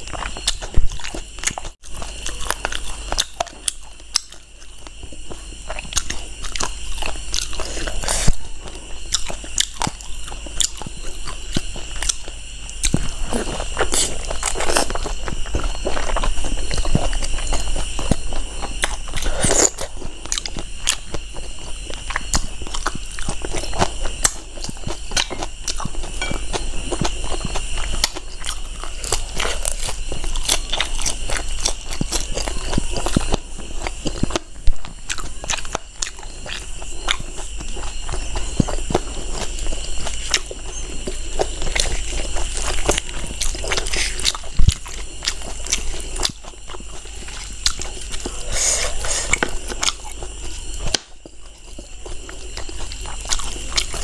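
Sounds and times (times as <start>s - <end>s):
chewing and lip-smacking: 0.0s - 54.0s
faint high whine: 0.0s - 54.0s
faint recording hiss: 0.0s - 54.0s.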